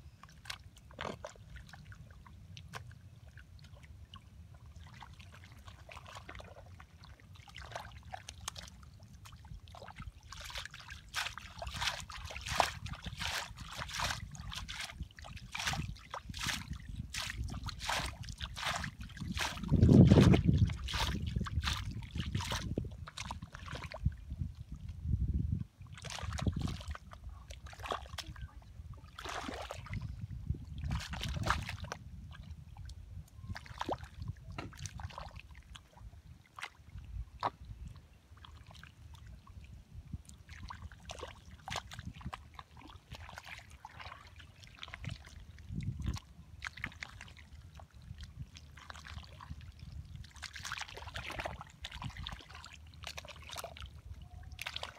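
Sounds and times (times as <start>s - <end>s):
squelching through wet mud: 0.3s - 24.4s, 25.9s - 39.4s, 40.0s - 54.9s.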